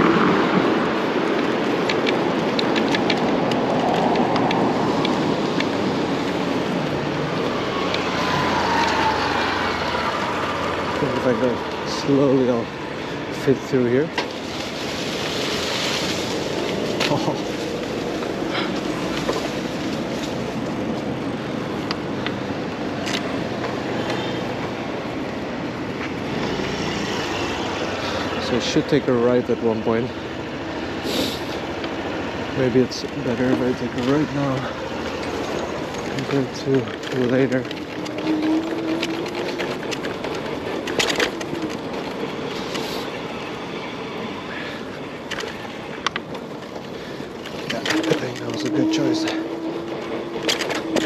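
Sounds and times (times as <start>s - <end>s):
bicycle clicks and rattles: 0.0s - 30.1s, 32.6s - 43.7s, 44.5s - 51.0s
bicycle road noise: 0.0s - 51.0s
rushing wind: 0.0s - 51.0s.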